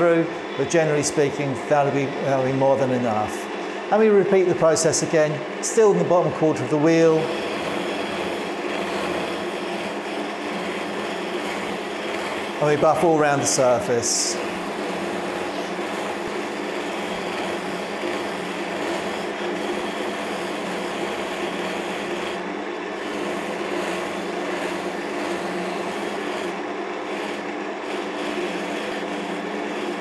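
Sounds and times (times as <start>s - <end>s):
lathe motor humming: 0.0s - 30.0s.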